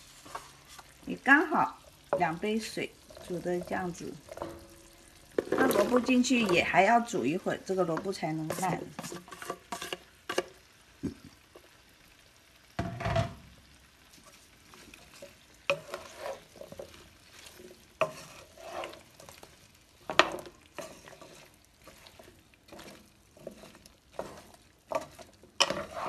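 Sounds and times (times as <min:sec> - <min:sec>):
wooden spatula scraping a pan: 0:00.0 - 0:11.7, 0:14.1 - 0:26.0
light sizzle: 0:00.0 - 0:26.0.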